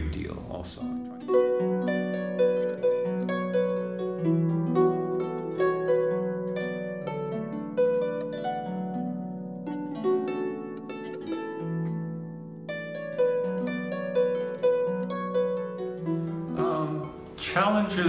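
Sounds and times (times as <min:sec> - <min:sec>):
plucked string melody: 0:00.0 - 0:18.0.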